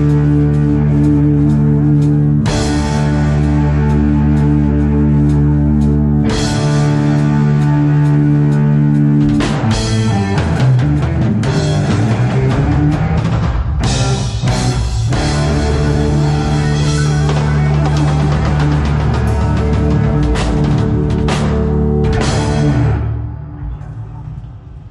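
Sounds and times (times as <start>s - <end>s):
guitar chords ringing: 0.0s - 24.8s
bass guitar: 0.0s - 24.9s
drums playing: 2.0s - 24.9s.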